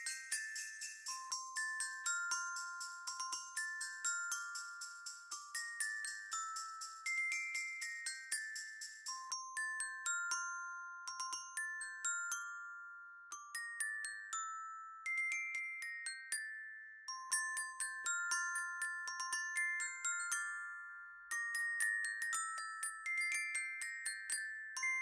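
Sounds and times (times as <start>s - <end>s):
glockenspiel melody: 0.0s - 25.0s.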